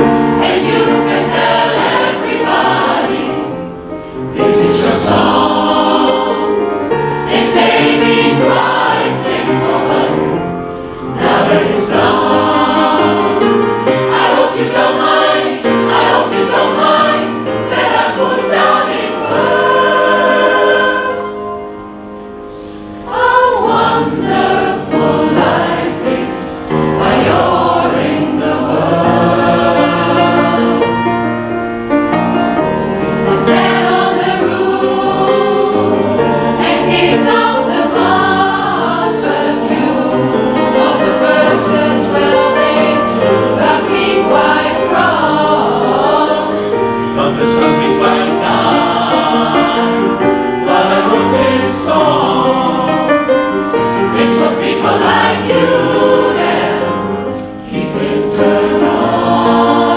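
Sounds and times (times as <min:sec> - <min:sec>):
mixed choir singing: 0:00.0 - 0:21.8, 0:22.5 - 0:59.9
piano accompaniment: 0:00.0 - 0:59.9.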